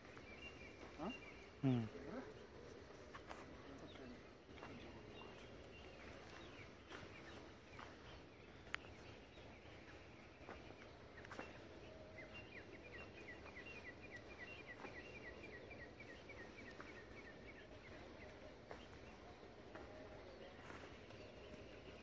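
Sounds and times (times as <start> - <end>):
quiet outdoor background noise: 0.0 - 22.0.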